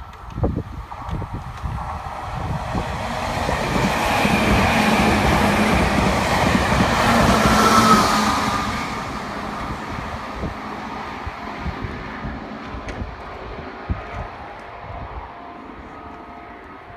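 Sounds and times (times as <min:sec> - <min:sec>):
electric train passing: 0:00.0 - 0:16.9.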